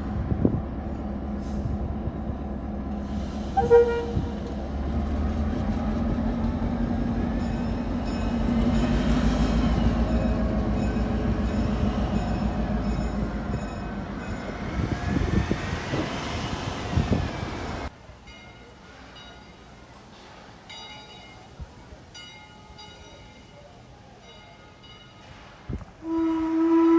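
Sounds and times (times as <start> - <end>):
train rolling past: 0.0 - 26.9.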